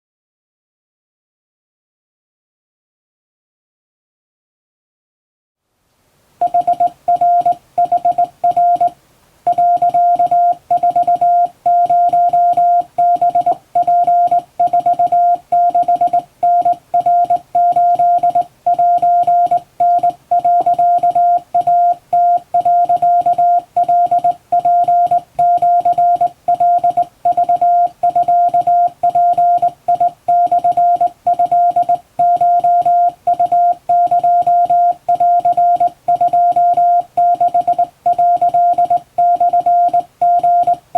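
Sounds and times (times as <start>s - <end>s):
morse code beeps: 6.4s - 40.8s.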